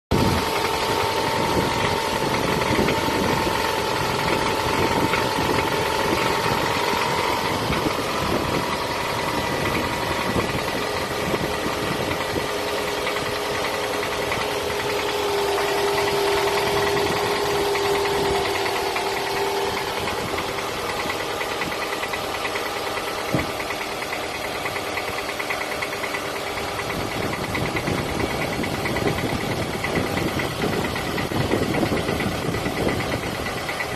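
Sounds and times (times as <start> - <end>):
car engine running: 0.1 - 33.9
rapid engine knocking: 0.1 - 33.9
steady whine: 0.1 - 33.9.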